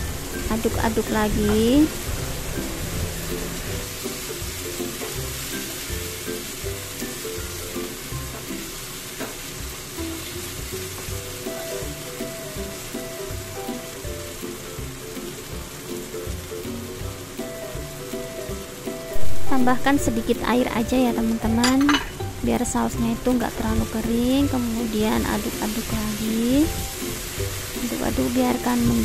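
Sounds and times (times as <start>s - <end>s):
sauce sizzling in a frying pan: 0.0s - 29.0s.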